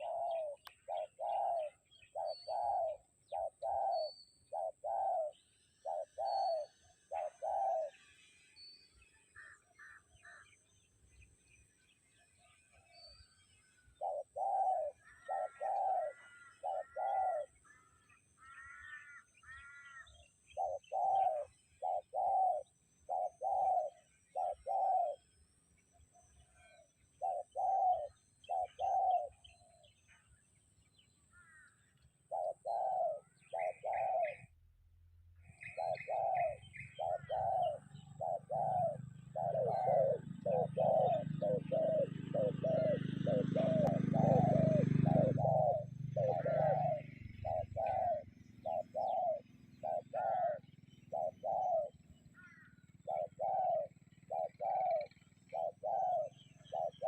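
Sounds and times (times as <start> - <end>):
bird repeating low notes: 0.0 - 57.0.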